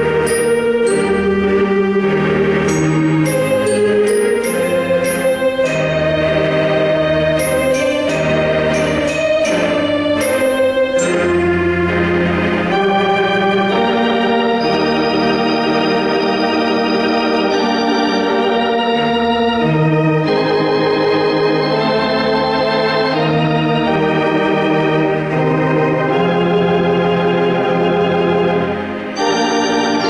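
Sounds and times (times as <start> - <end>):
theatre organ playing: 0.0 - 30.0.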